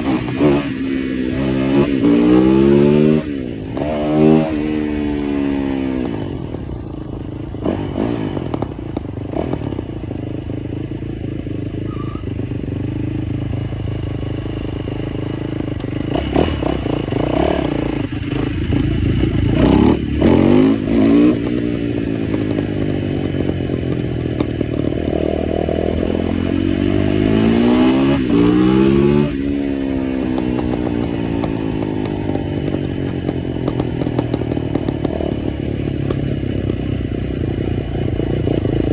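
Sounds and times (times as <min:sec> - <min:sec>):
small motorbike engine revving: 0:00.0 - 0:38.9.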